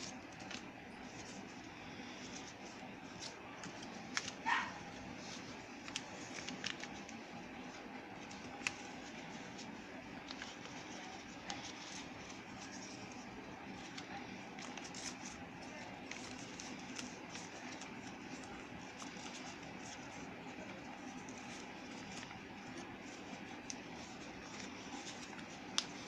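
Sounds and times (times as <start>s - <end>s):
paper being folded: 0.0s - 26.0s.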